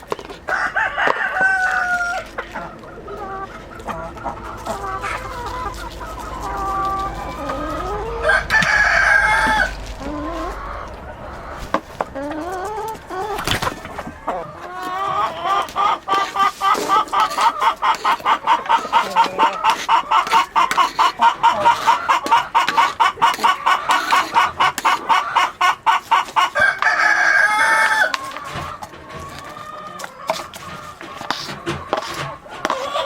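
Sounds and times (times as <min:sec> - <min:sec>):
chicken clucking: 0:00.0 - 0:33.0.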